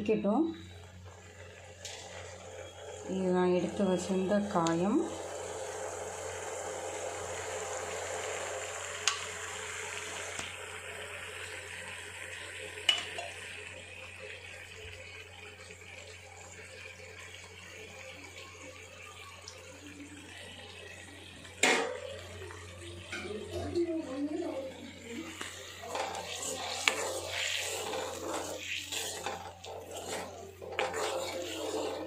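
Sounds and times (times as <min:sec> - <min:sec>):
mixture simmering in pan: 0:00.5 - 0:32.0.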